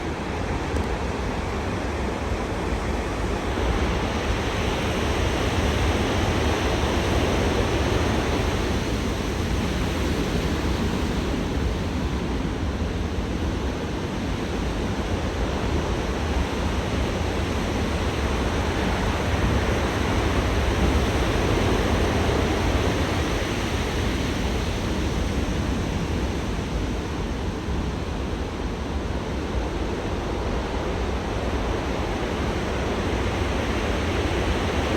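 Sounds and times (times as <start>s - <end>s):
heavy surf breaking on shore: 0.0s - 34.9s.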